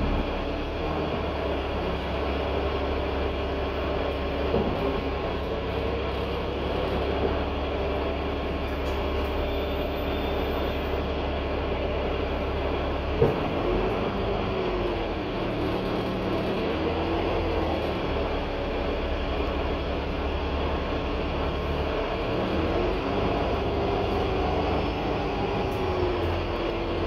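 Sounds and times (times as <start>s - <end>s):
bus diesel engine running: 0.0s - 27.0s
road noise: 0.0s - 27.0s.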